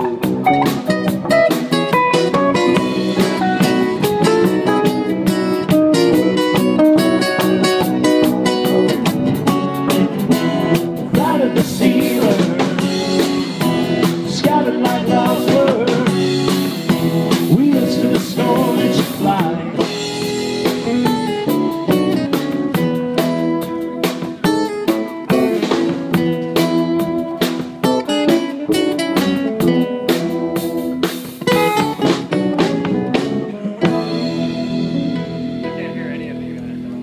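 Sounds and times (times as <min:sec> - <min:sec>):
acoustic guitar: 0:00.0 - 0:37.0
drum kit: 0:00.0 - 0:37.0
electric guitars: 0:00.0 - 0:37.0
wavering lead guitar line: 0:00.0 - 0:37.0.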